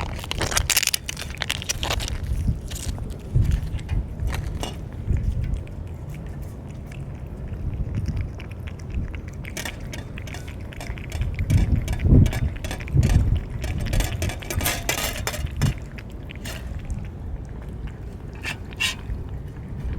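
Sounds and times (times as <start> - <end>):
cats crunching dry food: 0.0 - 19.9.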